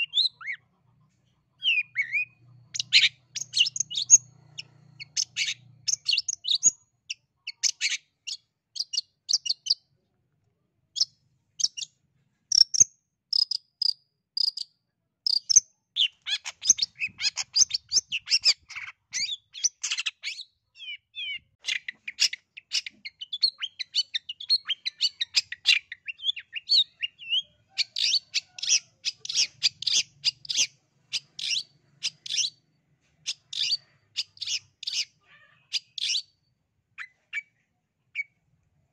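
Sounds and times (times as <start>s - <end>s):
bird singing high chirps: 0.0s - 0.7s, 1.6s - 9.9s, 15.3s - 38.4s.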